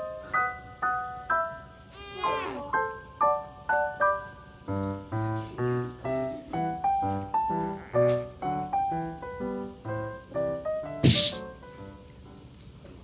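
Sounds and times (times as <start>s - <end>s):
light keyboard melody: 0.0s - 13.0s.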